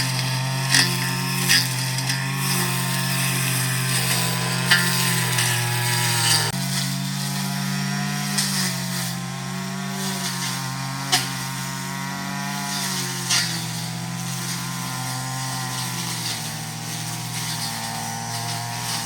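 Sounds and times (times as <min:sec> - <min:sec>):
brush cutter engine cutting grass: 0:00.0 - 0:19.0.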